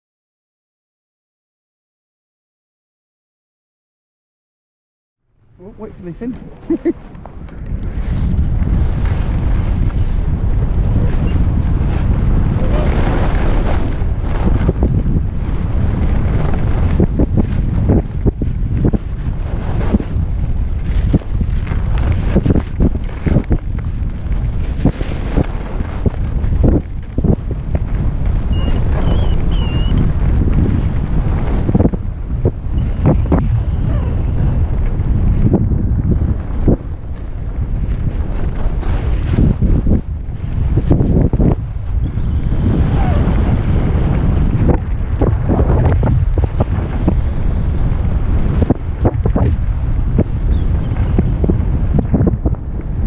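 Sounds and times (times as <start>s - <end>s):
wind rumble on microphone: 5.3s - 53.0s
skis sliding over packed snow: 5.7s - 32.6s, 36.0s - 42.0s, 42.6s - 53.0s.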